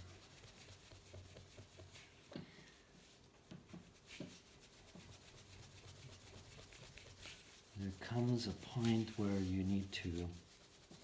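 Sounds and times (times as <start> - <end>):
cloth rubbing on toy car: 0.0 - 2.3, 3.0 - 11.0.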